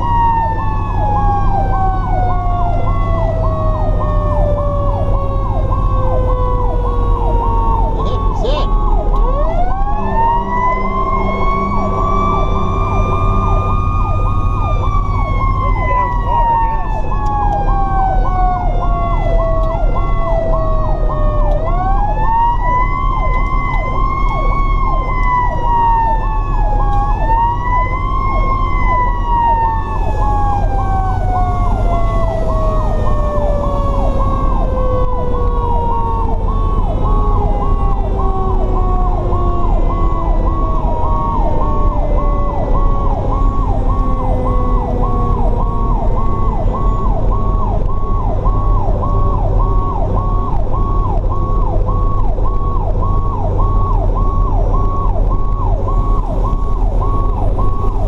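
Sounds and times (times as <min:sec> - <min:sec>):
engine and road drone: 0:00.0 - 0:58.0
siren pulsing rapidly: 0:00.0 - 0:58.0
siren wailing: 0:00.0 - 0:58.0.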